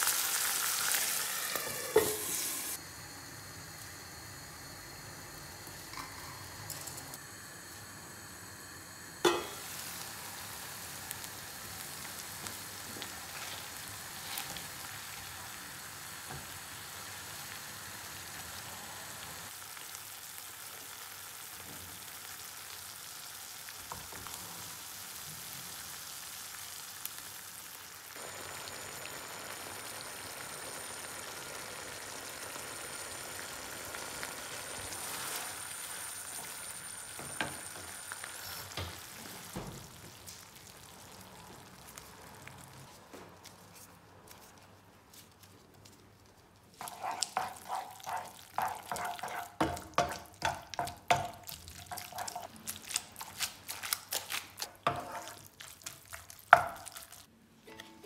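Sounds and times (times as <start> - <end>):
tomatoes sizzling in oil: 0.0 - 43.0, 46.8 - 58.0.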